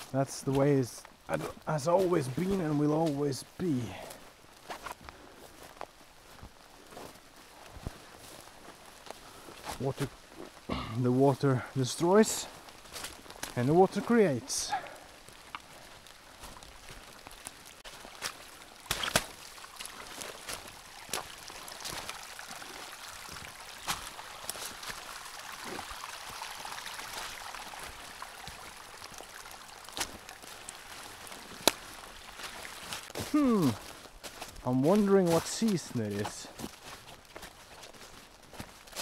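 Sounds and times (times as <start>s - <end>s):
forest stream rushing: 0.0s - 39.0s.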